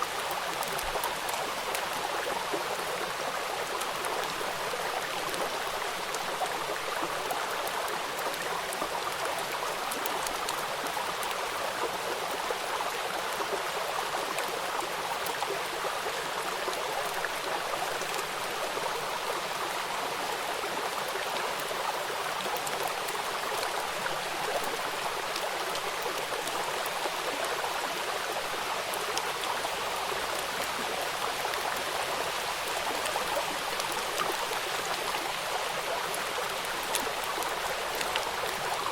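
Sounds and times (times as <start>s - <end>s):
raindrops pattering on water: 0.0s - 38.9s
running river water: 0.0s - 38.9s.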